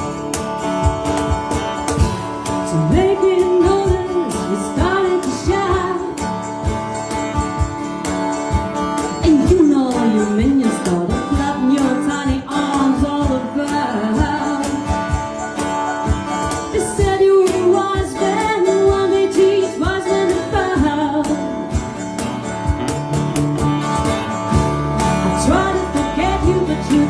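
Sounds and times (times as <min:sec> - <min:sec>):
band playing instrumental: 0:00.0 - 0:27.0
guitar lead melody: 0:00.0 - 0:27.0.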